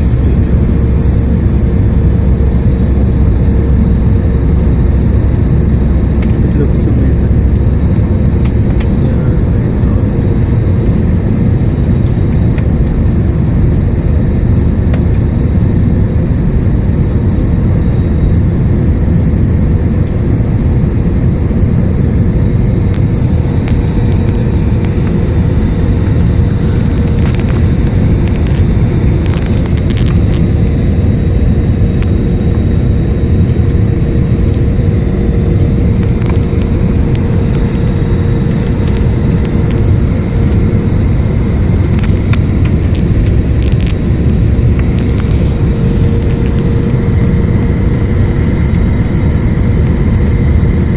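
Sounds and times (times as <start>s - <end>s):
airliner engines and airflow rumble: 0.0s - 50.9s
faint steady hum: 0.0s - 50.9s.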